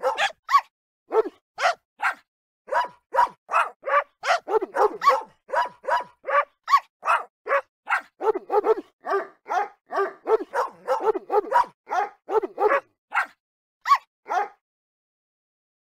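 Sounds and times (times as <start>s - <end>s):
dog barking rapidly: 0.0s - 14.6s.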